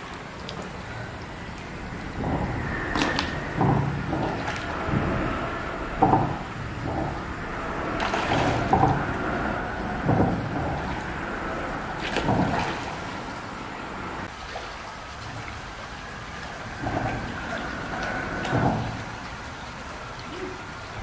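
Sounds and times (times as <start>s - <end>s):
water splashing: 0.0s - 21.0s.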